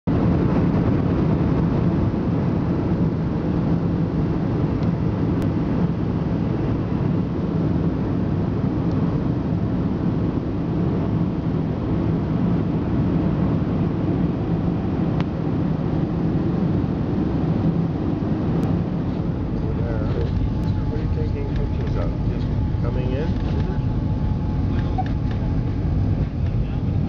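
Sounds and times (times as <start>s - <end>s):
airplane cabin noise: 0.1s - 27.0s
faint steady hum: 0.1s - 27.0s.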